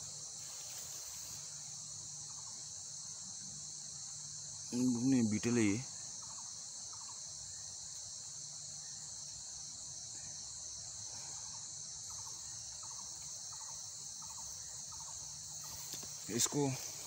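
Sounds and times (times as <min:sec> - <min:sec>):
insect chorus drone: 0:00.0 - 0:17.0
pulsed insect chirps: 0:00.0 - 0:17.0.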